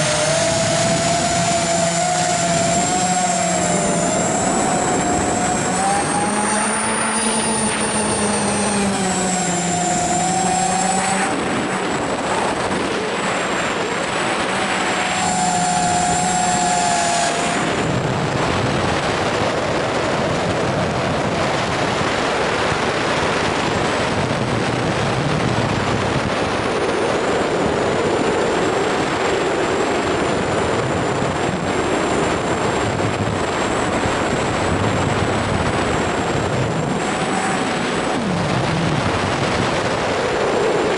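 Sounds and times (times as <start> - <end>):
quadcopter motors buzzing: 0.0 - 40.9
steady rushing noise: 0.0 - 40.9.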